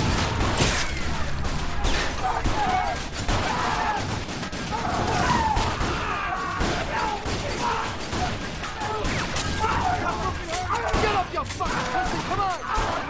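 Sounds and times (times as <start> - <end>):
rapid gunfire: 0.0 - 13.0.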